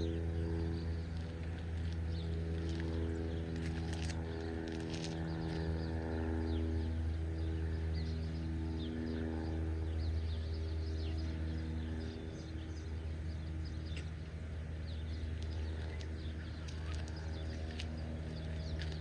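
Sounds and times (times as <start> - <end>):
low motor hum: 0.0 - 19.0
small birds chirping: 0.0 - 19.0.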